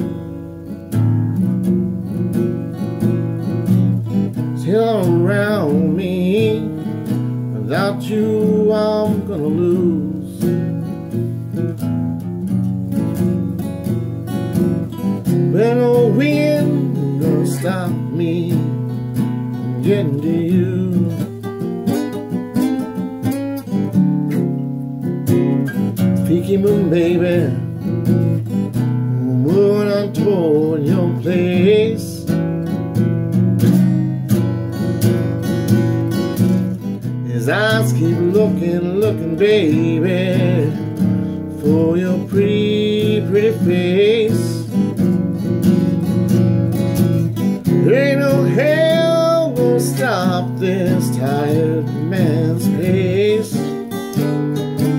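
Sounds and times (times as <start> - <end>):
man singing blues: 0.0 - 54.9
strummed acoustic guitar: 0.0 - 54.9.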